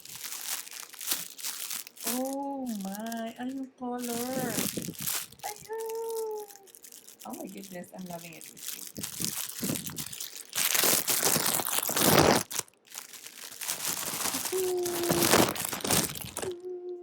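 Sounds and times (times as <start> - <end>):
plastic packaging crinkling: 0.0 - 16.7.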